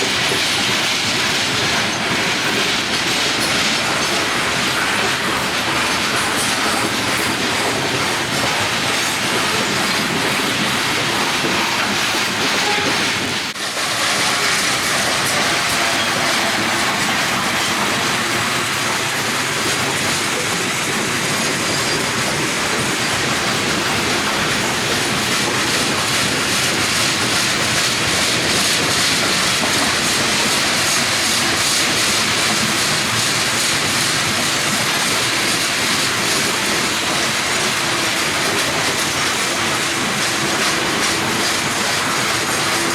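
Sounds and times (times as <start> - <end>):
freight train wheels on rails: 0.0 - 42.9.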